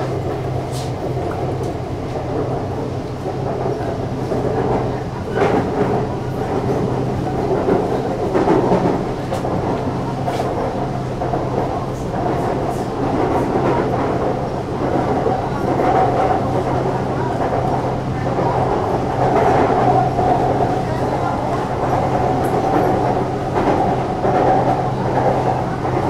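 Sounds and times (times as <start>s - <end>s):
electric train hum: 0.0s - 26.0s
wheels rumbling on rails: 0.0s - 26.0s.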